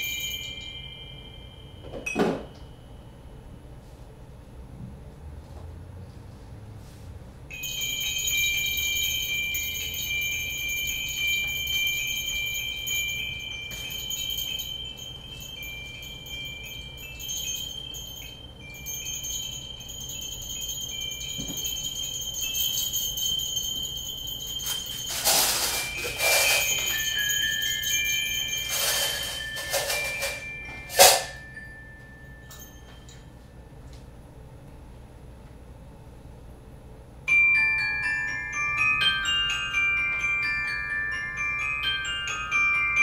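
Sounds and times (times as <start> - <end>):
metal chimes ringing: 0.0 - 3.8, 7.5 - 33.9, 37.3 - 43.0.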